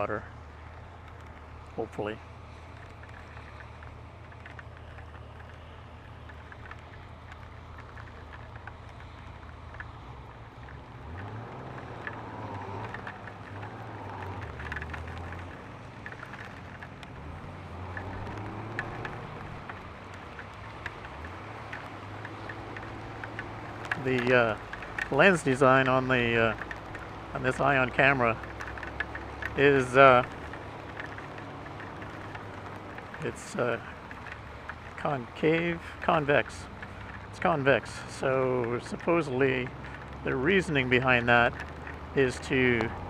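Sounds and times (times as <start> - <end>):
raindrops ticking on helmet: 0.0 - 43.0
traffic: 0.0 - 43.0.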